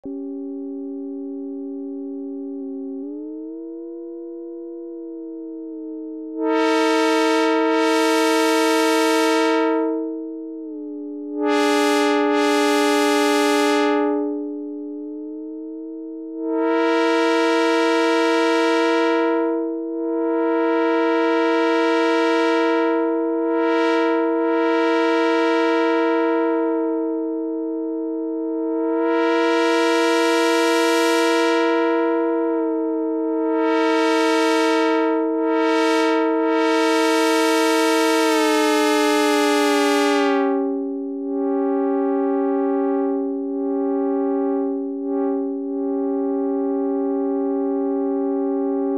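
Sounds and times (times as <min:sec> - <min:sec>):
synth chord with filter sweep: 0:00.0 - 0:48.9.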